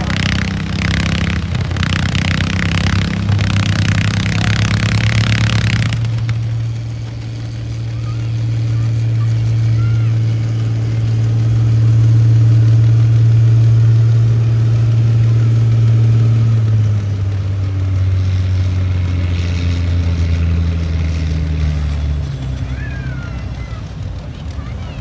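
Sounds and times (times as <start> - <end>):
tractor engine running under load: 0.0 - 25.0.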